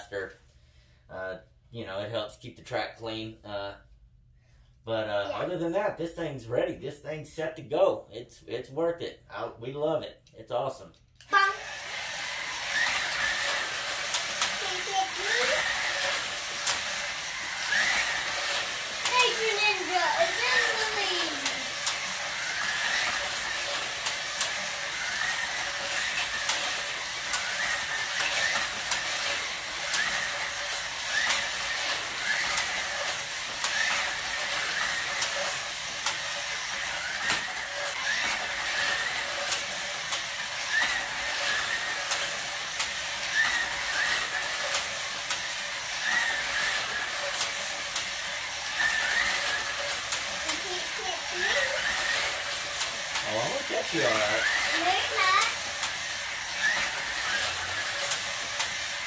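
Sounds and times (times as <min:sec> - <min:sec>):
slot car motors whirring: 0:11.2 - 0:59.0.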